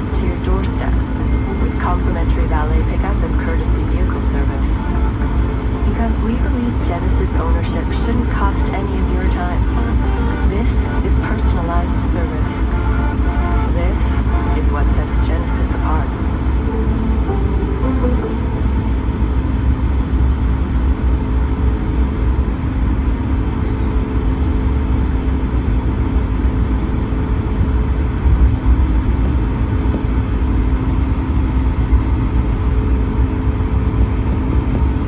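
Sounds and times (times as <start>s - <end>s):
faint steady hum: 0.0s - 35.0s
jet engines idling rumble: 0.0s - 35.0s.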